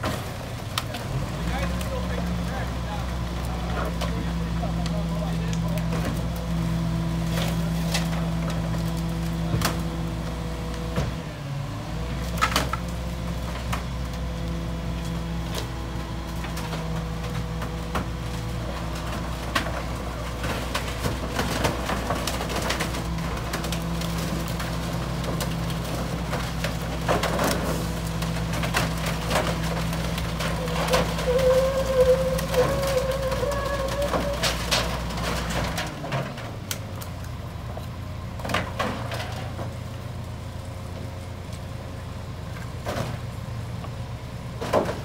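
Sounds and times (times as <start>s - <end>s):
garbage truck engine running: 0.0s - 45.0s
wood and branches clattering: 0.0s - 45.0s.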